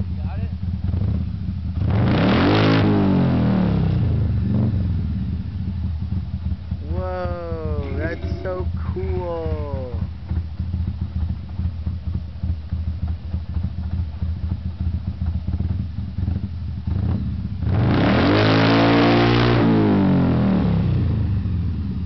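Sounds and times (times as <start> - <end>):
motorcycle engine idling: 0.0 - 2.1, 2.7 - 17.9, 20.0 - 22.0
motorcycle engine revving: 0.0 - 22.0.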